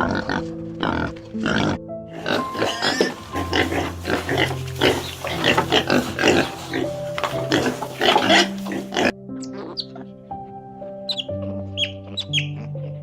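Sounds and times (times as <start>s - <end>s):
animal grunts and squeals: 0.0s - 10.3s, 11.1s - 13.0s
soft background music: 0.0s - 13.0s.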